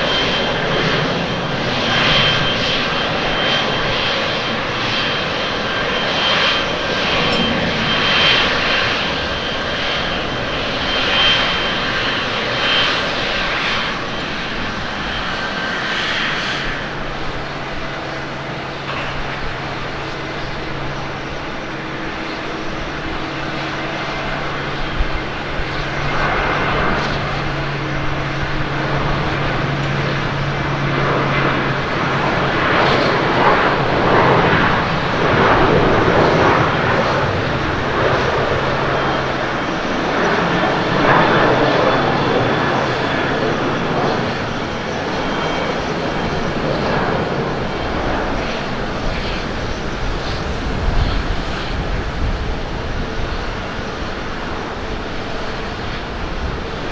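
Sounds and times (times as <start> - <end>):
airport low hum: 0.0 - 56.9
jet engines with high whine: 0.0 - 56.9.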